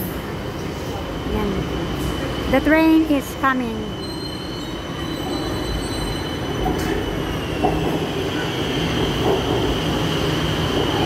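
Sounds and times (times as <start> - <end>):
electric train running noise: 0.0 - 11.0.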